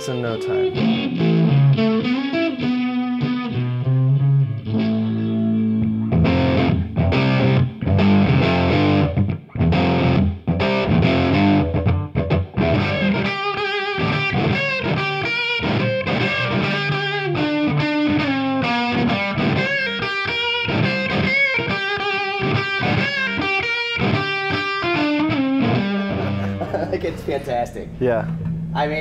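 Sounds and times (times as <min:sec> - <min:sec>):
overdriven electric guitar: 0:00.0 - 0:26.9.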